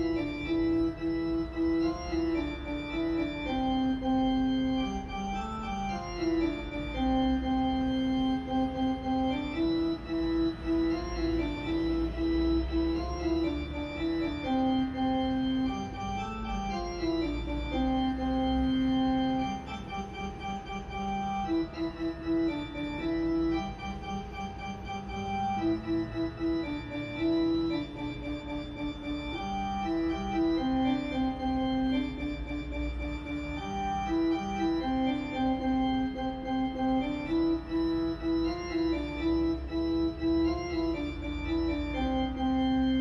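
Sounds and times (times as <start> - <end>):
music with long held notes: 0.0 - 43.0.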